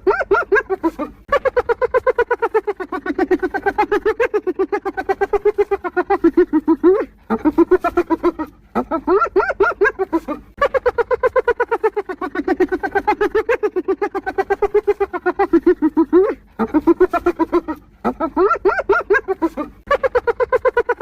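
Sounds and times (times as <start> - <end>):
hyena giggling: 0.0 - 21.0.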